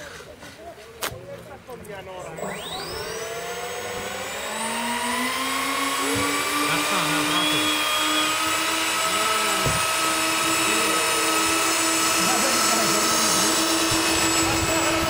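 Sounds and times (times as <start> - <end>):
high whine of ducted fans: 2.3 - 15.0.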